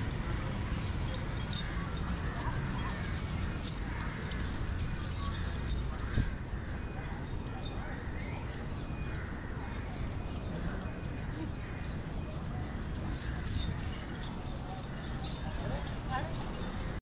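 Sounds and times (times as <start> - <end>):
faint distant voices: 0.0 - 17.0
low street rumble: 0.0 - 17.0.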